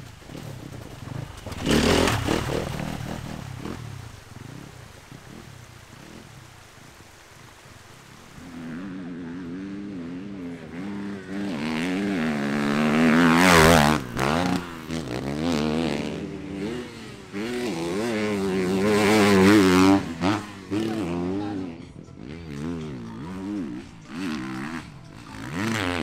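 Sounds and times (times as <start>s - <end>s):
motorcycle engines revving hard: 0.0s - 6.4s, 8.4s - 26.0s.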